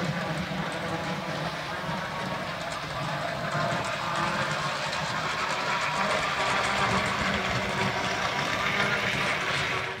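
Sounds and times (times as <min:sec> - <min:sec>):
model train motor whirring: 0:00.0 - 0:10.0
wheels rattling on rails: 0:00.0 - 0:10.0.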